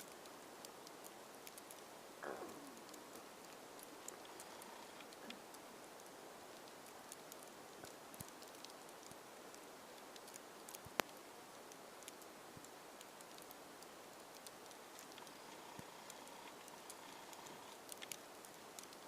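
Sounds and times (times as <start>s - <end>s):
faint steady hiss: 0.0s - 19.0s
light ticks: 0.0s - 19.0s.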